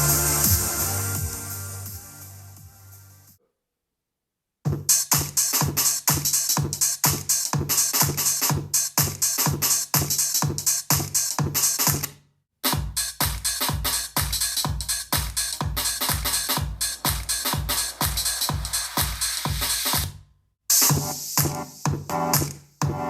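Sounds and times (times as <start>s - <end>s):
electronic music with drum-machine beat: 0.0s - 3.4s, 4.7s - 23.0s.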